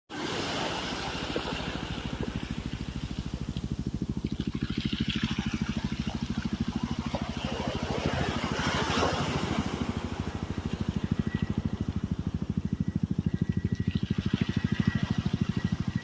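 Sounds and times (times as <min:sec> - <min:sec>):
helicopter rotor blades thudding: 0:00.2 - 0:16.0.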